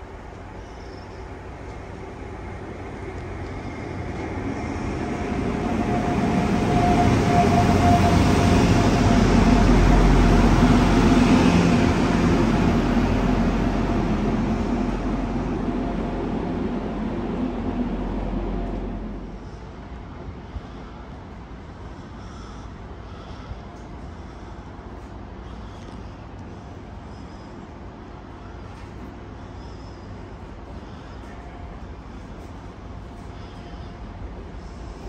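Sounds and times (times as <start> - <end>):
train engine hum: 0.0 - 35.0
train rail noise: 0.0 - 35.0.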